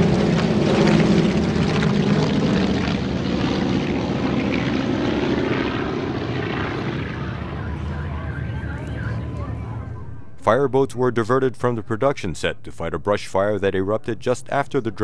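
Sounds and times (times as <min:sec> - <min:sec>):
propeller warplanes droning overhead: 0:00.0 - 0:15.0.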